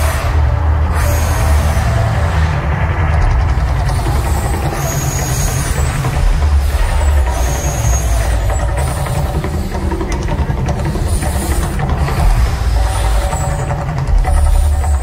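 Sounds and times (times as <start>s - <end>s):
deep rumble: 0.0s - 15.0s.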